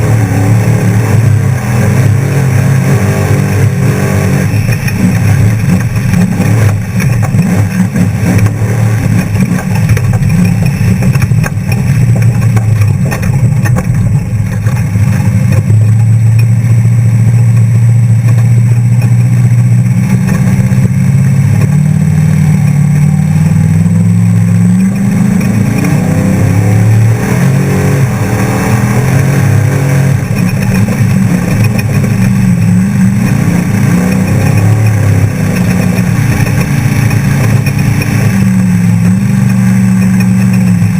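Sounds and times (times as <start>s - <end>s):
truck engine running hard: 0.0s - 40.9s
wind and road noise: 0.0s - 40.9s.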